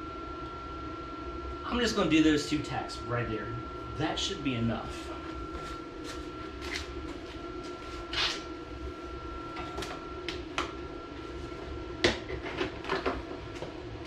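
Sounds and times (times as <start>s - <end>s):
welder humming: 1.7s - 14.0s.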